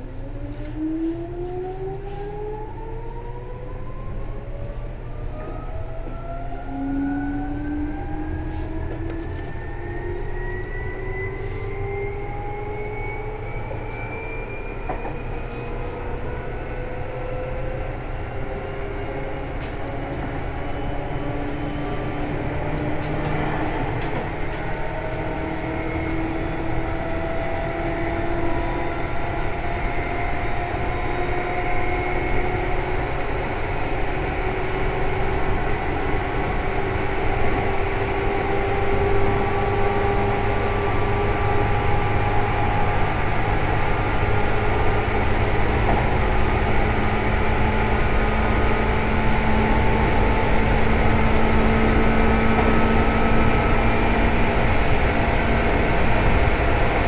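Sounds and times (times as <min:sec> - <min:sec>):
electric train motors whining: 0:00.0 - 0:57.0.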